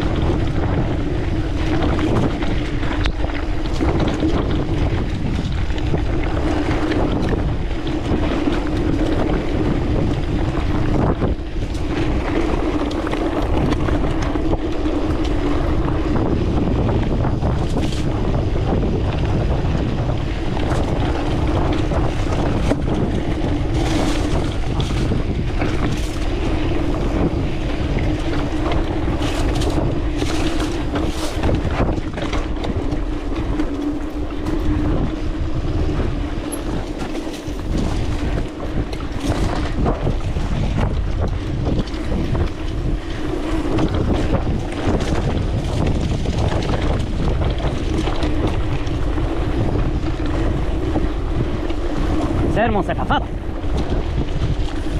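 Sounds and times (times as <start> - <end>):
bike rattling over rough ground: 0.0 - 54.9
bike tyres rumbling: 0.0 - 54.9
wind buffeting microphone: 0.0 - 54.9.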